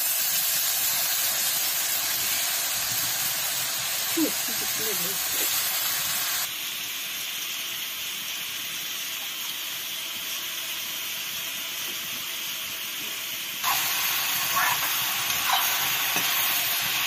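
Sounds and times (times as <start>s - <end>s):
mushrooms sizzling in a wok: 0.0s - 17.0s.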